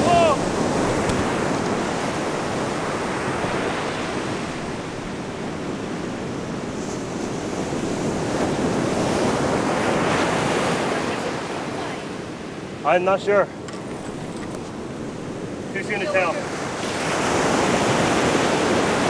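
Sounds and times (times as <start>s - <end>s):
wind buffeting microphone: 0.0s - 12.0s, 13.6s - 19.0s
ocean surf breaking: 0.0s - 19.0s.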